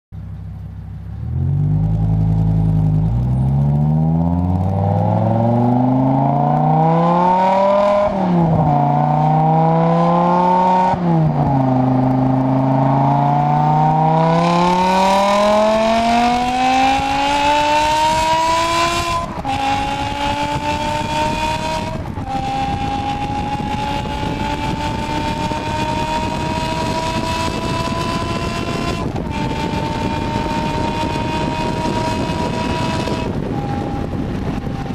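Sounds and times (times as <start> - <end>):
car engine revving: 0.6 - 34.9.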